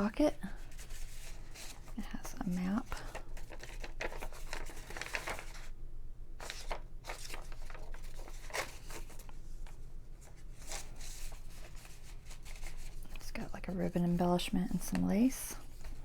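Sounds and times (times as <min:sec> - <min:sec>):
paper and card rustling: 0:00.0 - 0:05.8, 0:06.4 - 0:16.0.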